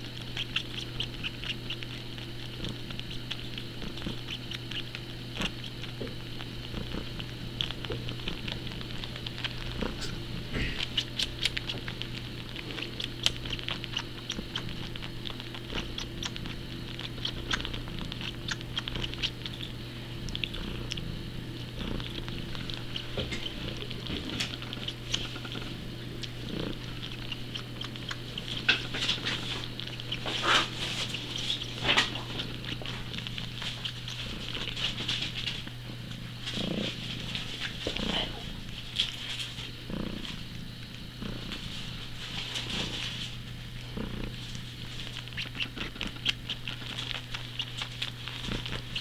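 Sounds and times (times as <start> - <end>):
cat suckling: 0.0 - 49.0.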